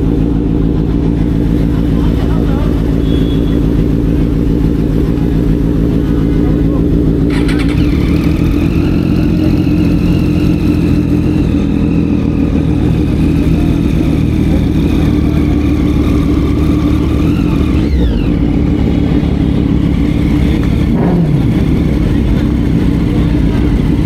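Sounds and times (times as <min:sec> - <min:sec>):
loud motorcycle engine running: 0:00.0 - 0:24.0.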